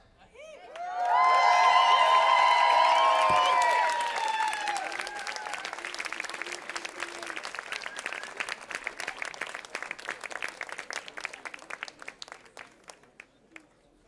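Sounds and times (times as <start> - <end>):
audience applauding: 0.7 - 13.7.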